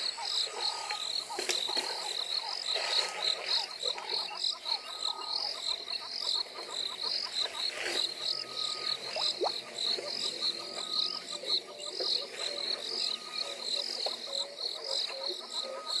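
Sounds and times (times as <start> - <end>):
insect calling in pulses: 0.0 - 14.1.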